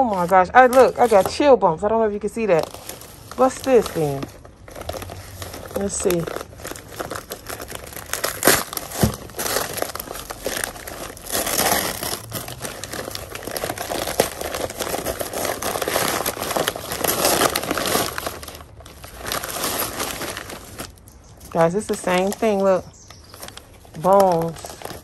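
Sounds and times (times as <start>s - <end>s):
sharp paper crackles: 0.0s - 1.6s, 2.2s - 25.0s
newspaper rustling and crumpling: 0.0s - 25.0s.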